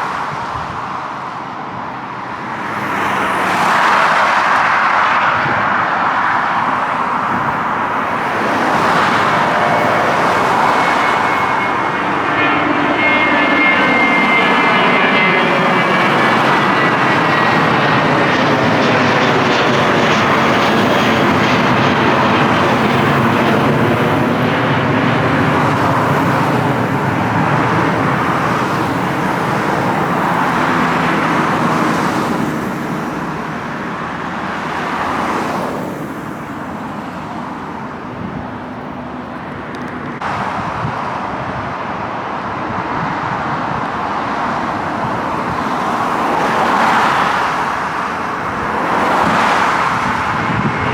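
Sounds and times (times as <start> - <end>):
jet airliner engines rumbling: 0.0 - 50.9
road traffic: 0.0 - 50.9.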